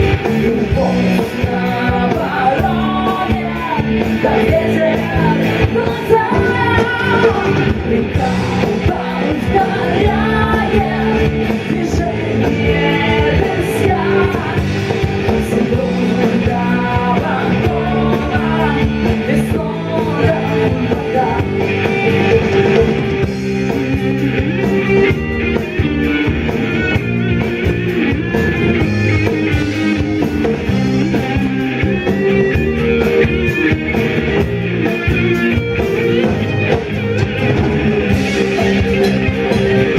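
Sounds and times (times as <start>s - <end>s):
rock song with singing: 0.0s - 39.9s.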